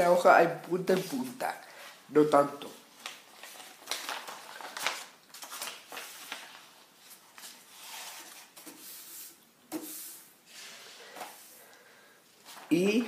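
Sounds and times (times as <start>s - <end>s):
paper rustling: 0.6s - 1.9s, 2.8s - 11.6s, 12.4s - 13.0s.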